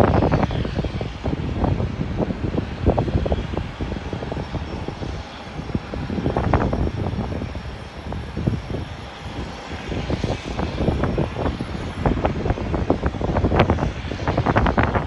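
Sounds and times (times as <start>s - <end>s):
jet engine noise: 0.0s - 15.0s
wind buffeting microphone: 0.0s - 15.0s.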